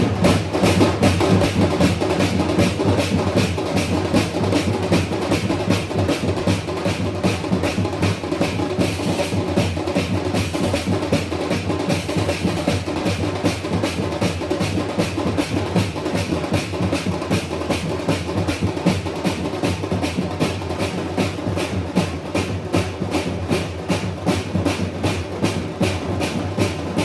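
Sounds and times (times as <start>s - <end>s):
fast drum strikes: 0.0s - 27.0s.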